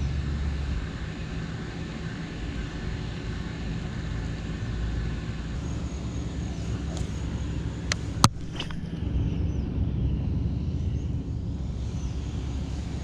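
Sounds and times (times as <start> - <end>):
distant engine drone: 0.0 - 13.0
outdoor background hiss: 0.0 - 13.0.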